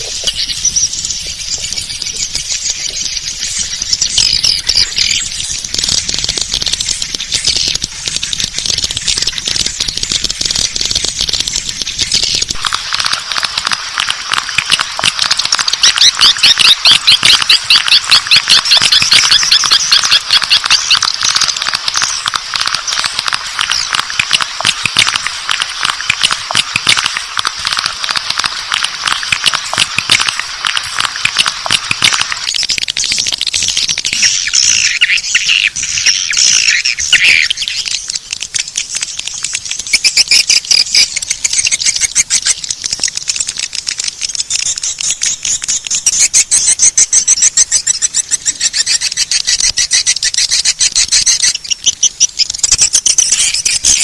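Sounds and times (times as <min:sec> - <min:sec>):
bird chirps and twitters: 0:00.0 - 0:43.2, 0:44.2 - 0:54.0.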